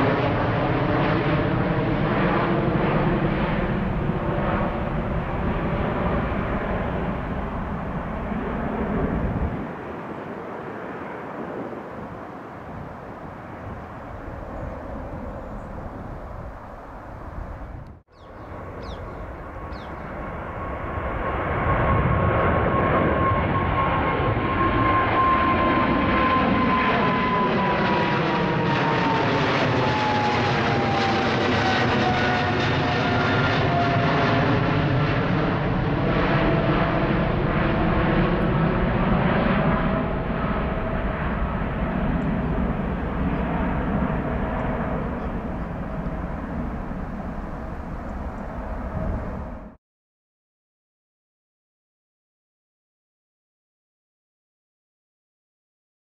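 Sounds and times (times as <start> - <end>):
jet airliner passing overhead: 0.0 - 49.8.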